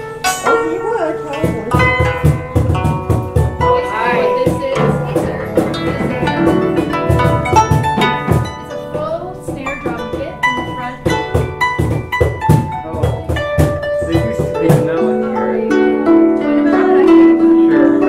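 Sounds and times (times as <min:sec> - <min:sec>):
plucked string notes: 0:00.0 - 0:18.0
drum hits: 0:00.2 - 0:17.7.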